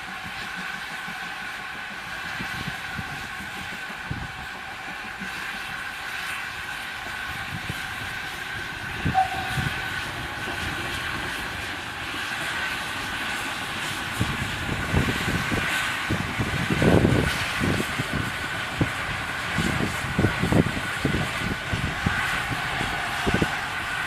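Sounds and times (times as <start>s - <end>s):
train running on rails: 0.0s - 24.0s.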